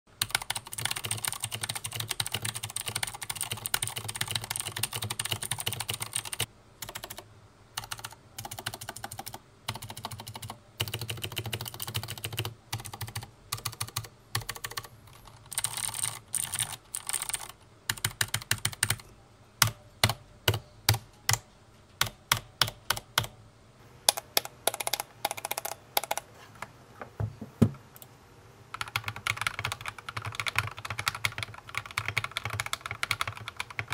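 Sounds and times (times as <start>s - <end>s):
clicky keyboard typing: 0.2s - 7.2s, 7.8s - 23.3s, 24.1s - 26.3s, 28.8s - 33.9s
quiet keyboard typing: 0.2s - 23.4s, 24.0s - 26.7s, 28.7s - 33.9s.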